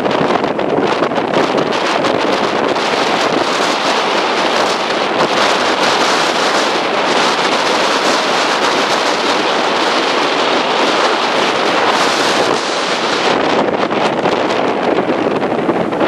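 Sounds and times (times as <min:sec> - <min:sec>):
breaking surf: 0:00.0 - 0:16.0
wind buffeting microphone: 0:00.0 - 0:16.0.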